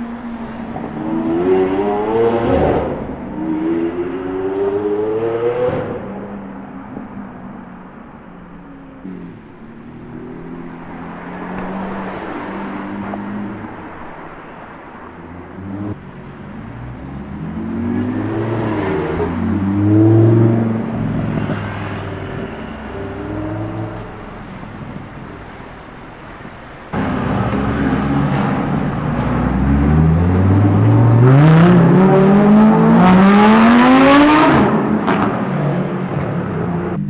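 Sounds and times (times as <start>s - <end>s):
sports car engines revving: 0.0s - 7.0s, 9.0s - 25.4s, 26.9s - 37.0s.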